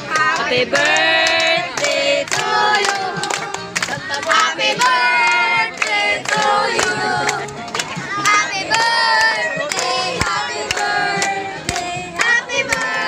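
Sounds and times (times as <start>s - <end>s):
hand-clapping: 0.0s - 13.0s
women and children singing: 0.0s - 13.0s.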